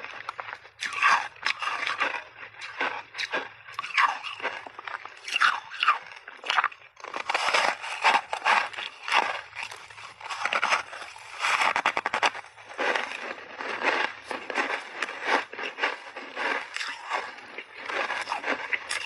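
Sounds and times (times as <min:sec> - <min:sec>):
crunchy chewing of shaved ice: 0:00.0 - 0:19.0.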